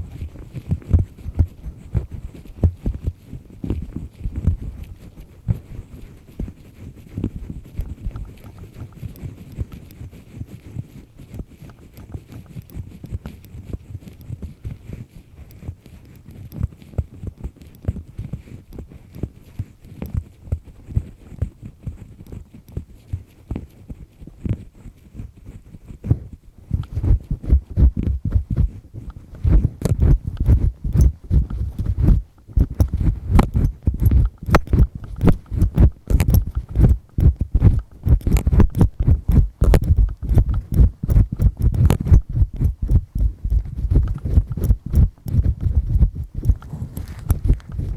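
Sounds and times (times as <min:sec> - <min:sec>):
ear pick scratching in ear: 0:00.0 - 0:47.9.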